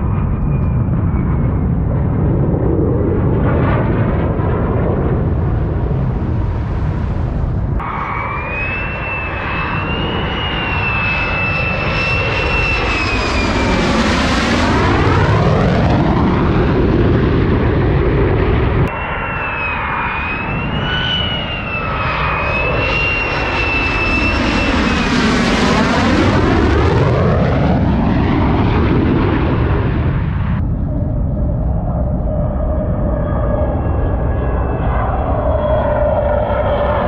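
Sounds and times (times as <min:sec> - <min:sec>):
fighter jet roaring past: 0:00.0 - 0:37.0.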